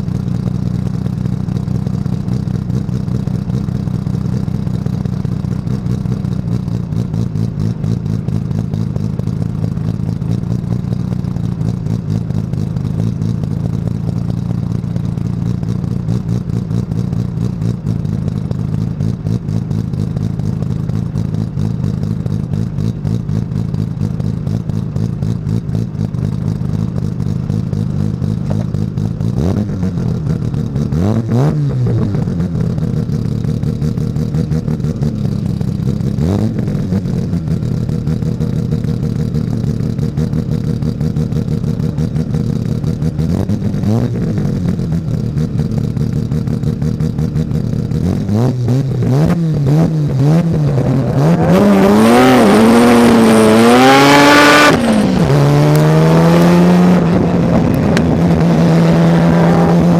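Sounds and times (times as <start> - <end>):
rotary engine at high revs: 0.8 - 59.9.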